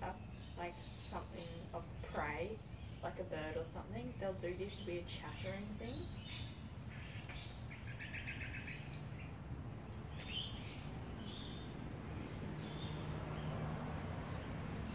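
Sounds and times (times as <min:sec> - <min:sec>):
small birds chirping and trilling: 0:00.0 - 0:14.9.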